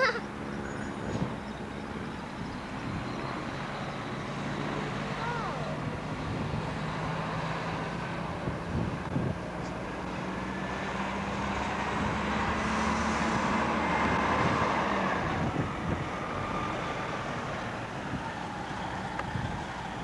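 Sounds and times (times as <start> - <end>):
propeller airplane engine droning: 0.0 - 20.0.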